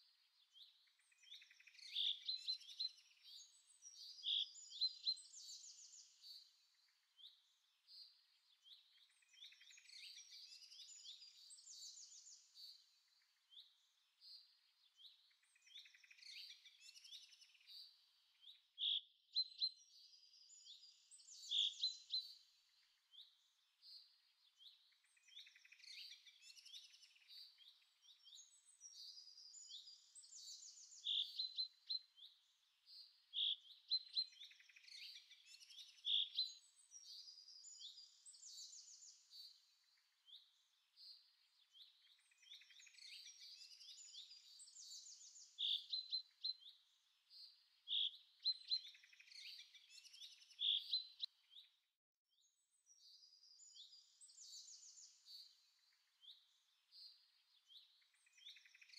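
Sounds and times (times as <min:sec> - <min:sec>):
birds chirping and twittering: 0:00.1 - 0:58.9.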